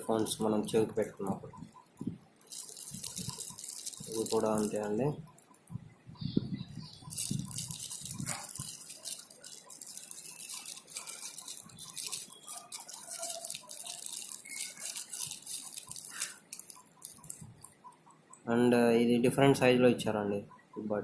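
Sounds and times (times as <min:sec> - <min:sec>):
plastic packaging crinkling: 0:00.0 - 0:05.7, 0:06.7 - 0:17.9.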